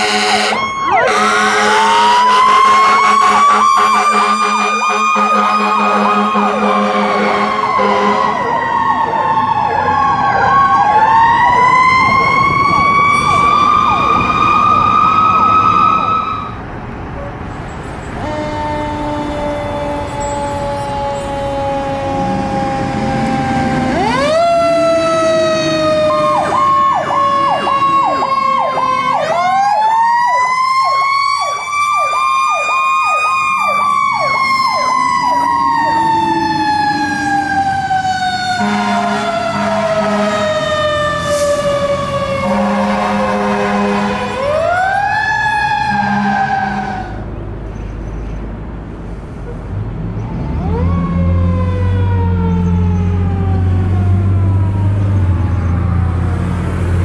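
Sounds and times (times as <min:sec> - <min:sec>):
fire engine electronic siren wailing: 0:00.0 - 0:16.7, 0:17.8 - 0:47.3, 0:50.2 - 0:57.0.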